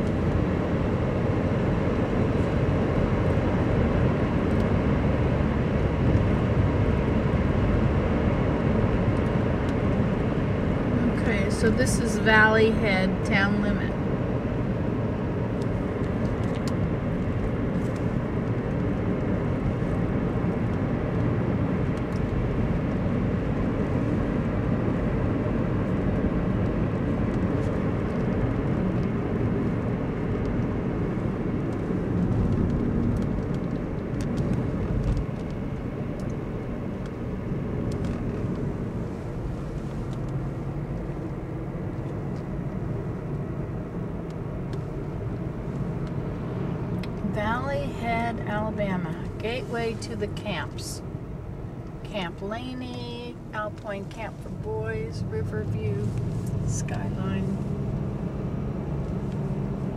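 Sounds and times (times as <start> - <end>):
car road noise from inside cabin: 0.0 - 59.9.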